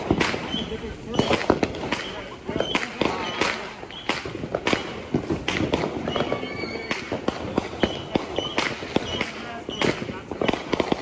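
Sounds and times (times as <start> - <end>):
fireworks bangs: 0.0 - 11.0
fireworks popping and crackling: 0.0 - 11.0.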